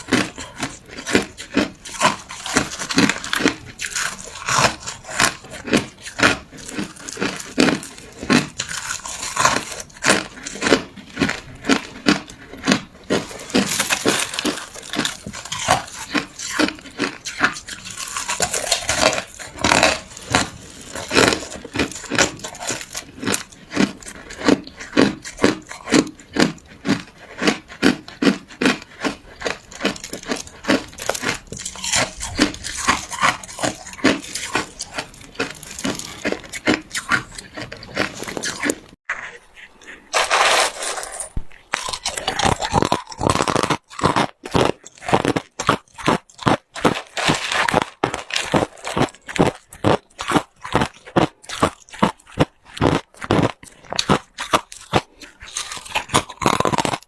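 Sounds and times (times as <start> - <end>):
ice crunching between teeth: 0.0 - 57.0.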